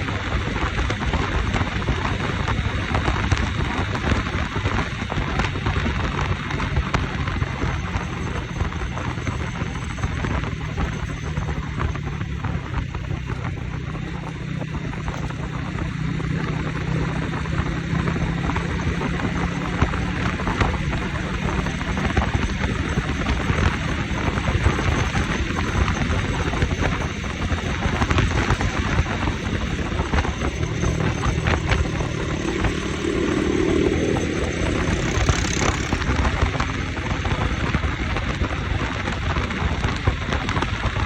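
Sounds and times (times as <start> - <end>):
motorcycle engine hum: 0.0 - 41.0
wind rushing over microphone: 0.0 - 41.0.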